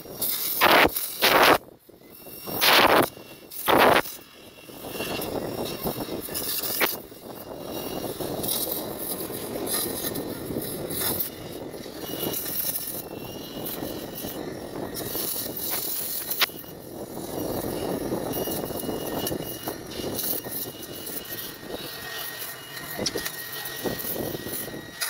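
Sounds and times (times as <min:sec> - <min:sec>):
sparks crackling: 0:00.0 - 0:25.0
welding torch flame hissing: 0:00.0 - 0:25.0.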